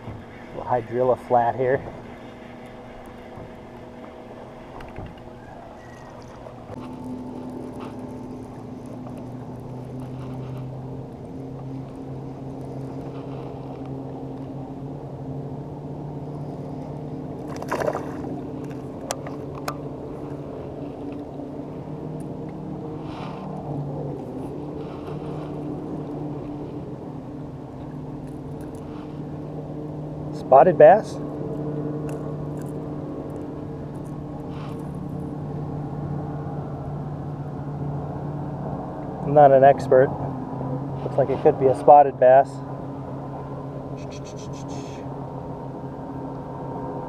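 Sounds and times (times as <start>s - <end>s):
boat motor humming: 0.0s - 47.0s.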